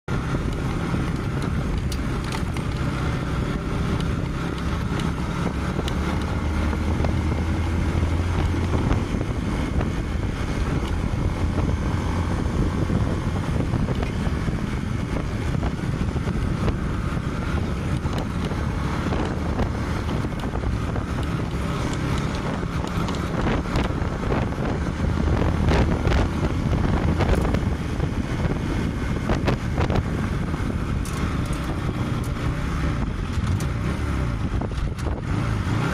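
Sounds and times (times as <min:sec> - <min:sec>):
motorcycle engine running: 0:00.1 - 0:35.9
wind noise on microphone: 0:00.1 - 0:35.9.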